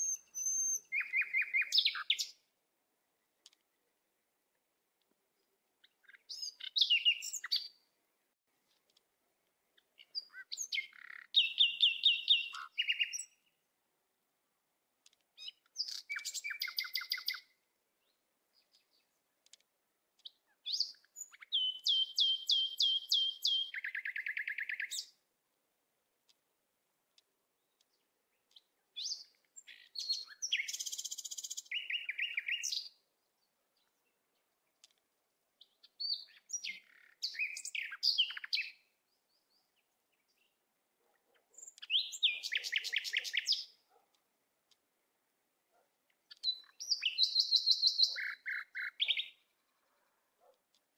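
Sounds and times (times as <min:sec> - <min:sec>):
songbird singing: 0:00.0 - 0:25.4, 0:26.1 - 0:50.9.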